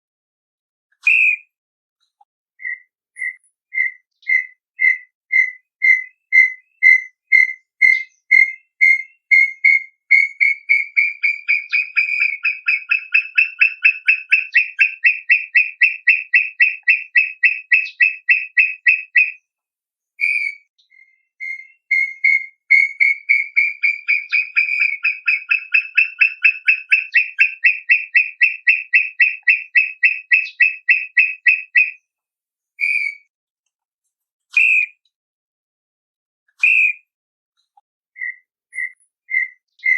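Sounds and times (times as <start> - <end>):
bird whistled song: 0.9 - 1.6, 2.6 - 19.4, 20.2 - 32.0, 32.8 - 33.3, 34.5 - 35.0, 36.5 - 37.1, 38.1 - 39.9.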